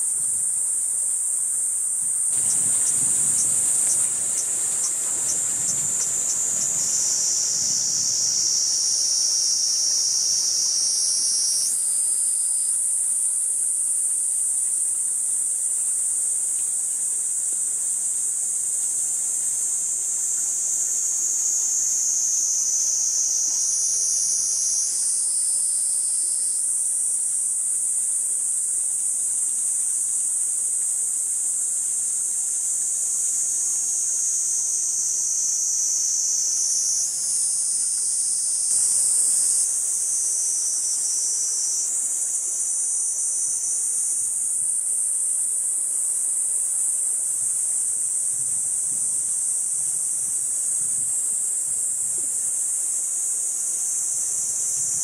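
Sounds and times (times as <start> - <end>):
cicada buzzing drone: 0.0 - 55.0.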